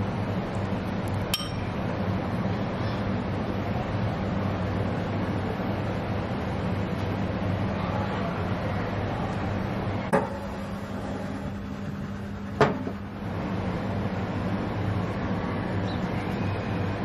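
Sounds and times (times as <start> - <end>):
oven humming: 0.0 - 17.0.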